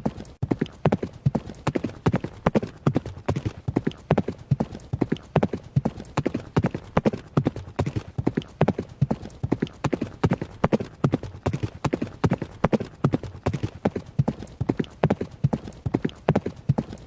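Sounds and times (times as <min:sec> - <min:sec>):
horse hoofbeats: 0:00.0 - 0:17.0.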